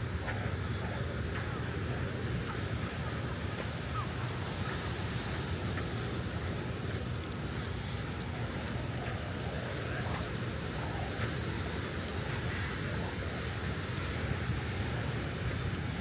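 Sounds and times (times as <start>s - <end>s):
road traffic: 0.0s - 16.0s
wind: 0.0s - 16.0s
surf: 0.1s - 16.0s.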